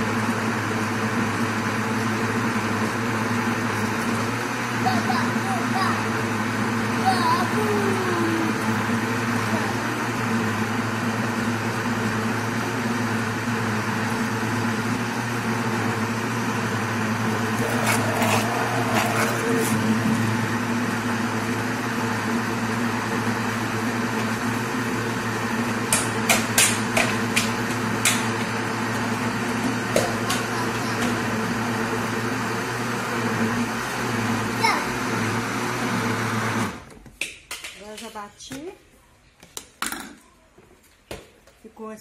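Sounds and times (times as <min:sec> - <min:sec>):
blender motor running: 0:00.0 - 0:36.9.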